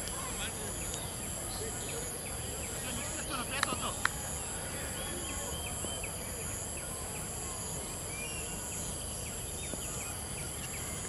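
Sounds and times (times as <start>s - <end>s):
insect buzz and chirps: 0.0s - 11.0s.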